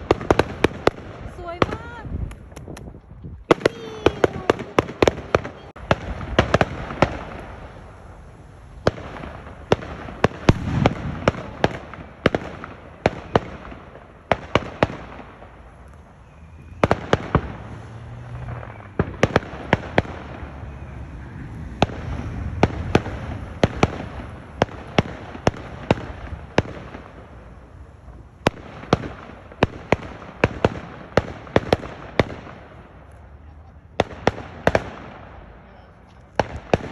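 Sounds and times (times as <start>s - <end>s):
fireworks bangs and cracks: 0.0s - 36.9s
fireworks crackle and rumble: 0.0s - 36.9s.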